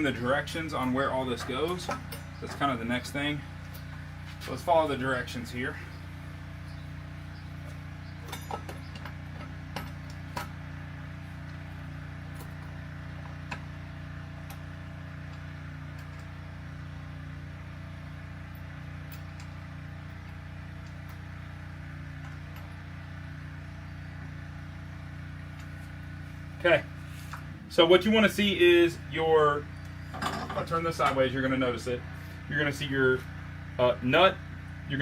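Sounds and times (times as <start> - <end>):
steady low room hum: 0.0 - 35.0.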